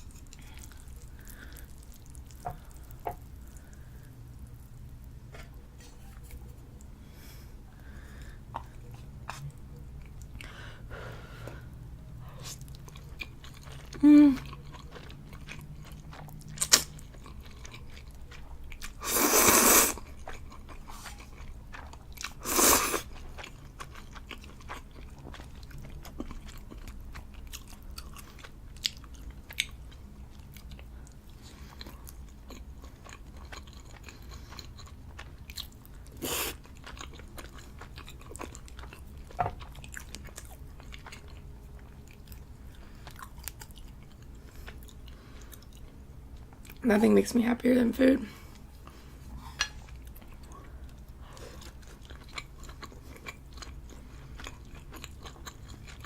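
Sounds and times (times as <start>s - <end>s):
person chewing: 0.0s - 10.6s, 11.4s - 46.8s, 48.4s - 56.0s.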